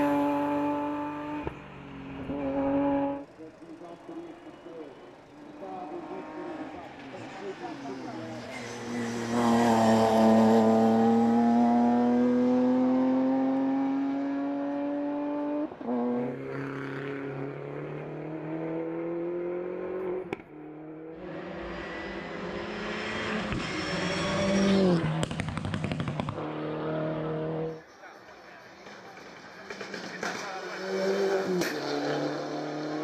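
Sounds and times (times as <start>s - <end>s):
race car engine revving: 5.4s - 27.8s, 28.8s - 33.0s.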